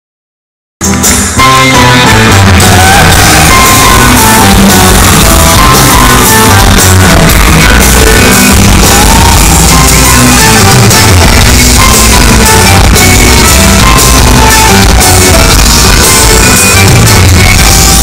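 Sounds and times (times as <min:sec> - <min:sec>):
live folk band playing: 0:00.8 - 0:18.0.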